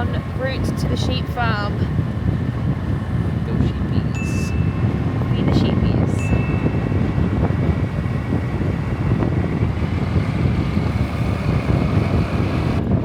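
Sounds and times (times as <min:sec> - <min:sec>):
motorbike running: 0:00.0 - 0:13.0
wind buffeting microphone: 0:00.0 - 0:13.0.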